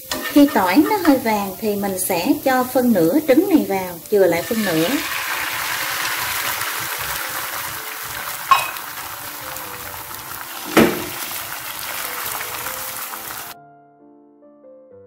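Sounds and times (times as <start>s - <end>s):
egg sizzling in hot oil: 0.0s - 13.6s.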